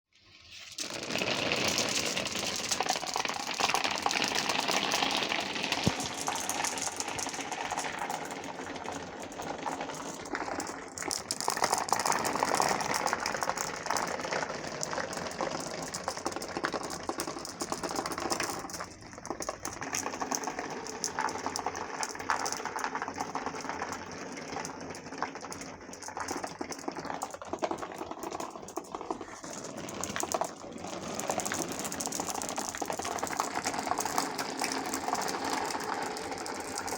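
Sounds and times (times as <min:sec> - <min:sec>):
marbles rattling through marble run: 0:00.6 - 0:36.9.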